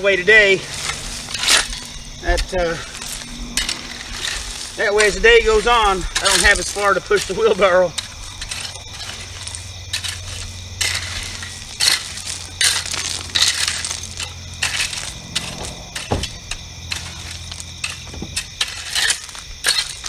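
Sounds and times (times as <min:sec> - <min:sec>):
gravel crunching and scraping: 0:00.0 - 0:20.0.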